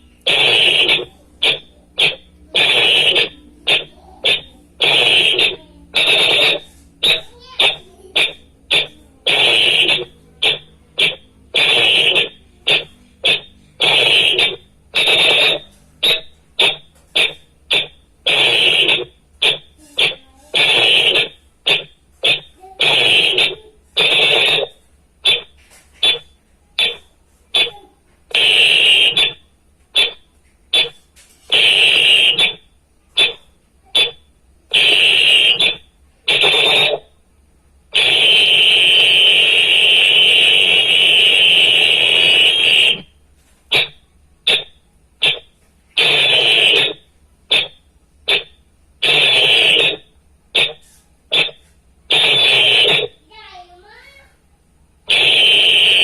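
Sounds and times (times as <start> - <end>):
whistle blasts: 0.2 - 29.4, 30.0 - 33.4, 34.0 - 37.1, 38.0 - 43.1, 43.7 - 53.2, 55.1 - 56.0.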